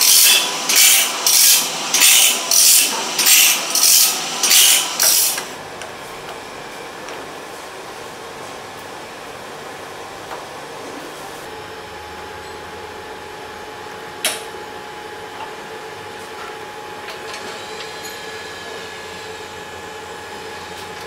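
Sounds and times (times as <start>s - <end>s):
welding machine hum and hiss: 0.0s - 21.0s.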